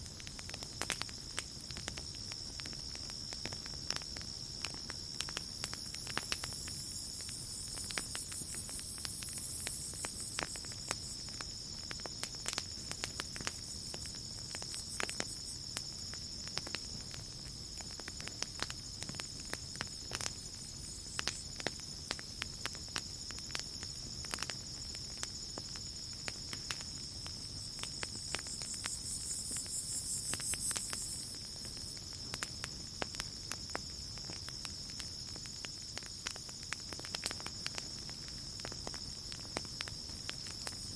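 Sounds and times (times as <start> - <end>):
campfire crackling and popping: 0.0 - 40.9
crickets trilling: 0.0 - 40.9.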